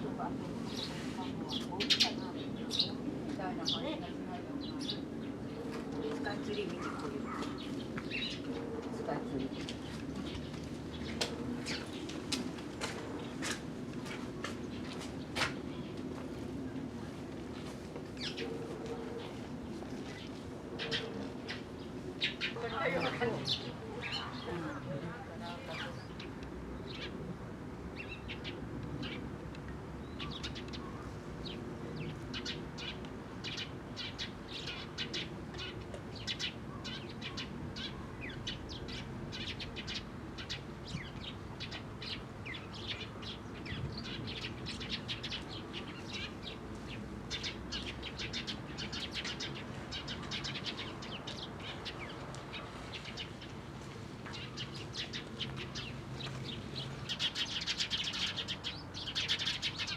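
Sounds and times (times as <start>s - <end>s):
sparrows chirping: 0.0s - 59.9s.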